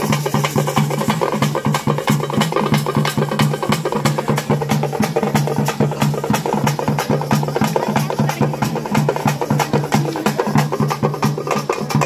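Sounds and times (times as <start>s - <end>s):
drums beaten in fast rhythm: 0.0s - 12.0s.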